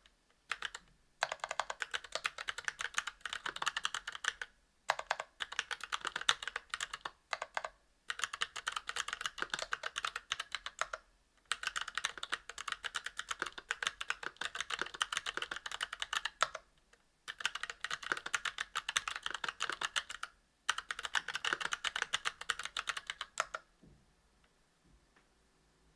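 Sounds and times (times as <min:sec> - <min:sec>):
fast typing on mechanical keyboard: 0:00.5 - 0:16.6, 0:17.3 - 0:23.6.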